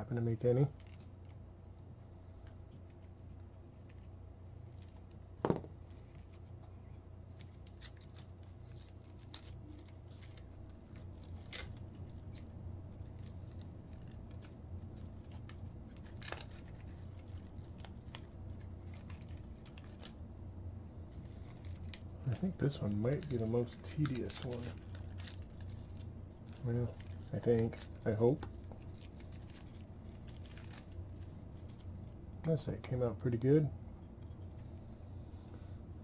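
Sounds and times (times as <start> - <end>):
paper being peeled: 0.1 - 1.4, 2.0 - 5.2, 5.9 - 20.3, 21.1 - 33.2.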